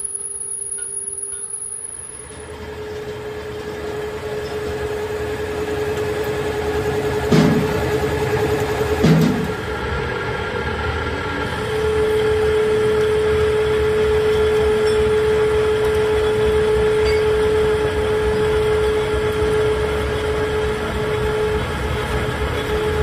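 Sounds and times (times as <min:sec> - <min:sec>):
cutting whine: 0:00.0 - 0:23.0
metal lathe running: 0:00.0 - 0:23.0.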